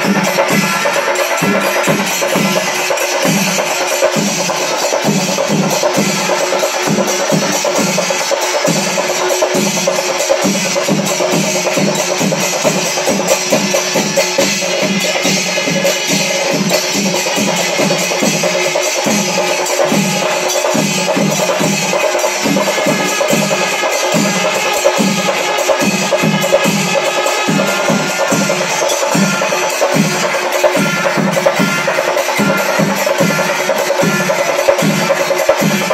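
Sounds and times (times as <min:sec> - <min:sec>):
brass hand cymbals clashing: 0:00.0 - 0:35.9
drums beating driving rhythm: 0:00.0 - 0:35.9.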